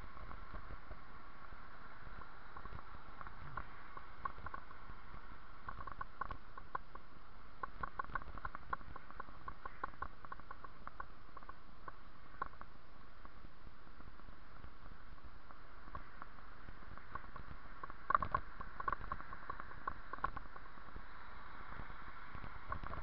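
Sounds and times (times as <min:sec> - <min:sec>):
bicycle tyres rolling on pavement: 0:00.0 - 0:23.0.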